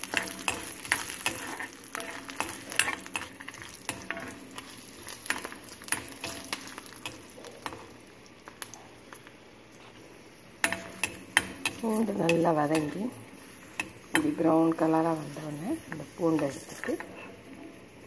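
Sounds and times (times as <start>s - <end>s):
garlic and chillies sizzling in oil: 0.0s - 18.0s.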